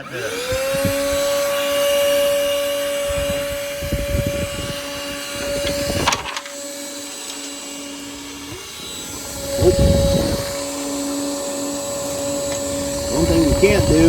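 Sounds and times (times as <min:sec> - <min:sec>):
vacuum motor whining: 0:00.0 - 0:14.0.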